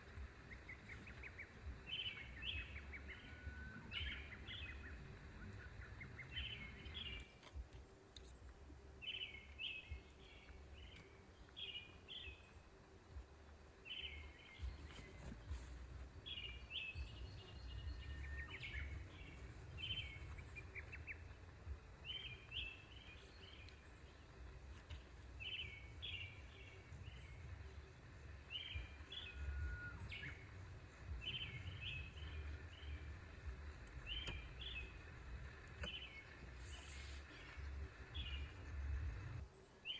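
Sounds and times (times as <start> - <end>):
low uneven rumble: 0.0 - 39.6
small songbirds chirping: 0.0 - 39.9.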